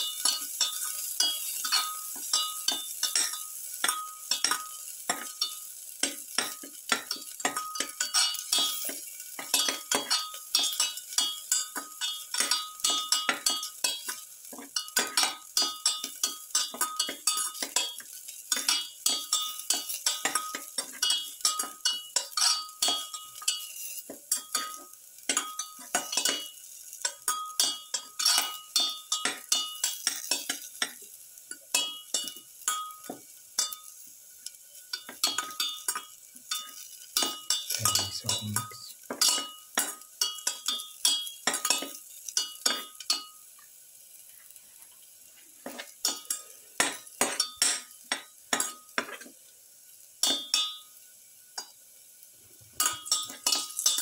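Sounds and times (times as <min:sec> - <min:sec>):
metal utensil scraping a pan: 0:00.0 - 0:43.4, 0:44.3 - 0:49.4, 0:52.8 - 0:54.0
oil sizzling: 0:00.0 - 0:54.0.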